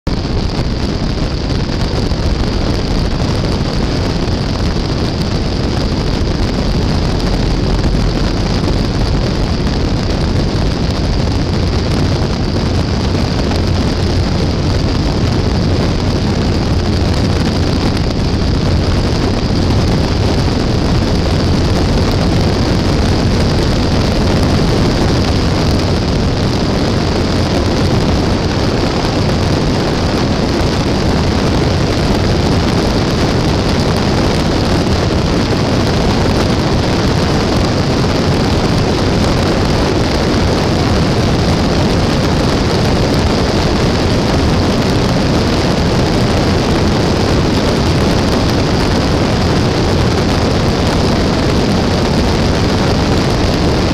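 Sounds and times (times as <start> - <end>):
aircraft piston engine and propeller: 0.0 - 53.9
wind rushing over microphone: 0.0 - 53.9.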